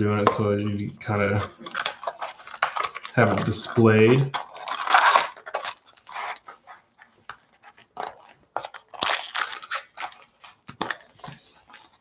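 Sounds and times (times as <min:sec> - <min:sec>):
foil packs rubbing and crinkling: 0:01.1 - 0:12.0.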